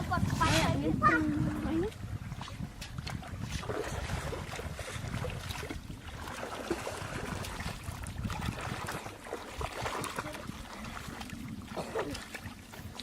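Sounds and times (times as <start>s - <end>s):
steady low rumble: 0.0s - 13.0s
water splashing and sloshing: 0.0s - 13.0s.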